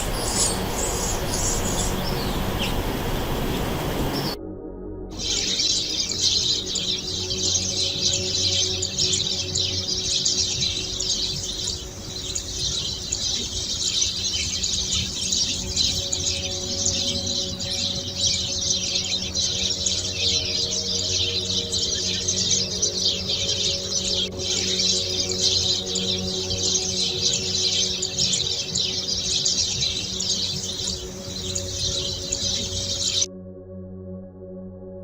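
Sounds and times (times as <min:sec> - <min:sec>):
many birds chirping: 0:00.0 - 0:04.4, 0:05.2 - 0:33.3.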